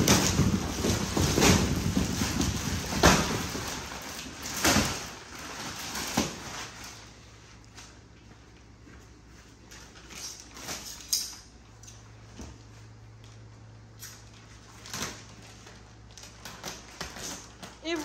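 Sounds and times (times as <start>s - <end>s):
rustling and scraping of wrapping: 0.0s - 18.0s.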